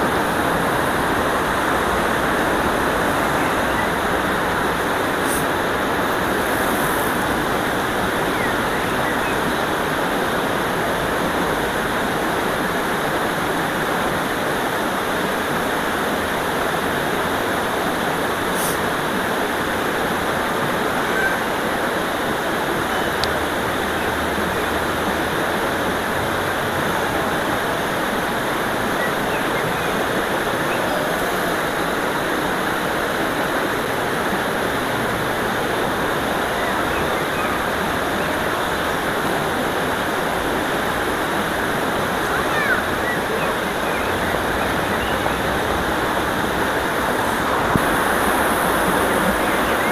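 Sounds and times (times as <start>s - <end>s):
river water rushing over ledge: 0.0s - 49.9s.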